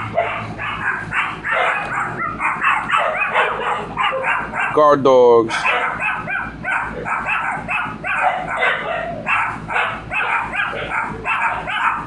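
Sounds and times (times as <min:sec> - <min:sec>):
small dogs yapping: 0:00.0 - 0:12.0.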